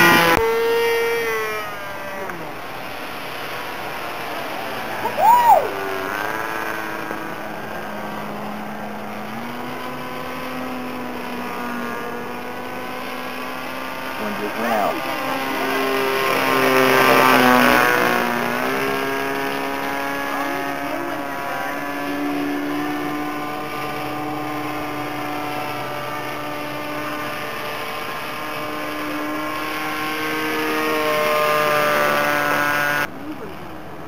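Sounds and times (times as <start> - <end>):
model plane engine whining: 0.0 - 34.0.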